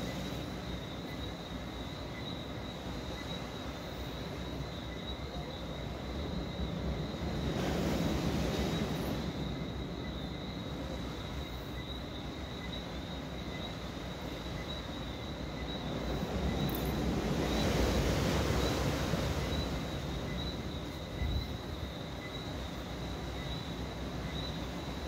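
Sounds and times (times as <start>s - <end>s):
insects and frogs calling: 0.0s - 25.0s.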